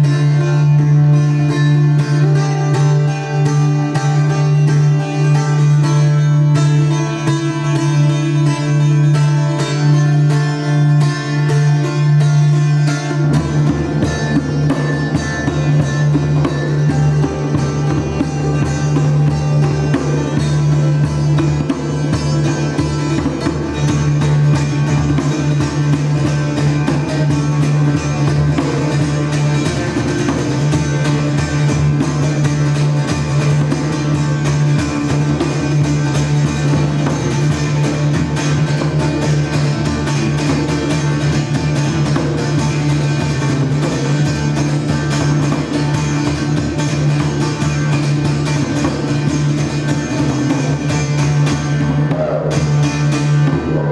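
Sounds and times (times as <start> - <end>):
hand drums: 0.0 - 53.9
plucked strings: 0.0 - 53.9.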